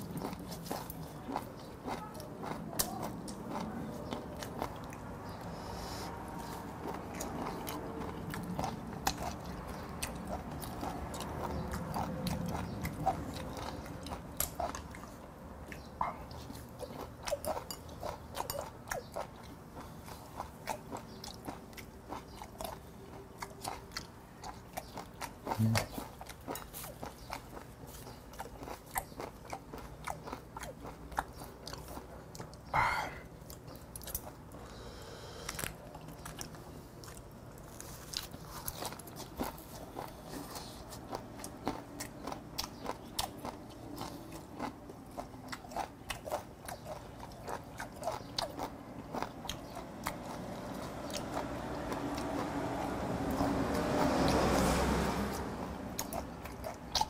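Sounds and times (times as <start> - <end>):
person chewing wet crunches: 0.0 - 57.0.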